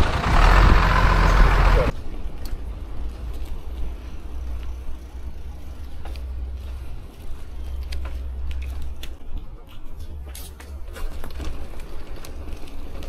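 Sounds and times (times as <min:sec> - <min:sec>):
bicycle clicks and rattles: 0:02.2 - 0:13.0.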